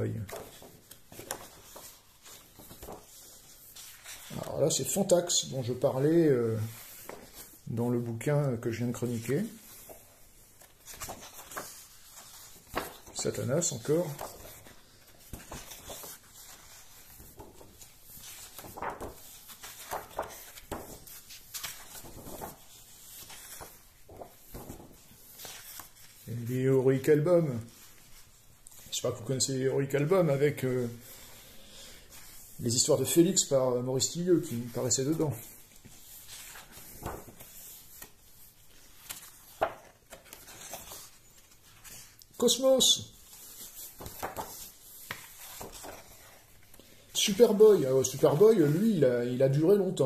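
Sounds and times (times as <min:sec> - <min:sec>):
book pages turning: 0:00.0 - 0:05.8, 0:06.6 - 0:07.7, 0:09.0 - 0:26.6, 0:31.0 - 0:48.9.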